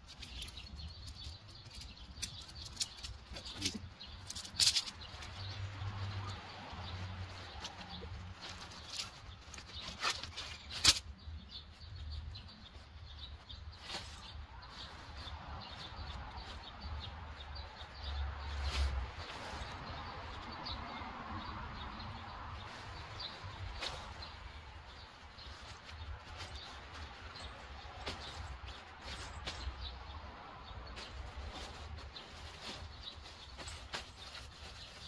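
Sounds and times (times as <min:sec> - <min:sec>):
tent poles clicking and clattering: 0:00.0 - 0:20.6, 0:22.1 - 0:35.0
tent fabric rustling and flapping: 0:01.7 - 0:11.0, 0:12.7 - 0:20.5, 0:22.5 - 0:30.0, 0:30.8 - 0:35.0.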